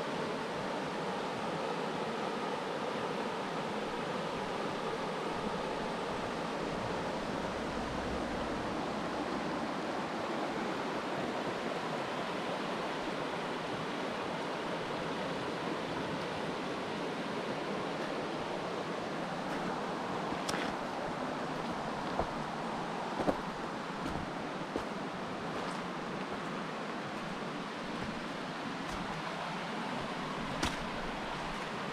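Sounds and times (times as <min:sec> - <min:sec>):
flowing water rushing: 0:00.0 - 0:31.9.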